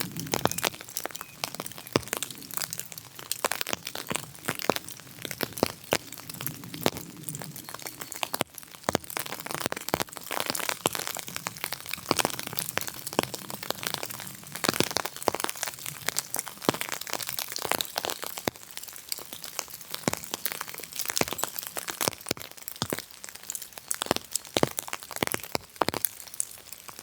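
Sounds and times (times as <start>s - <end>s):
irregular crackling and crunching: 0.0s - 27.0s.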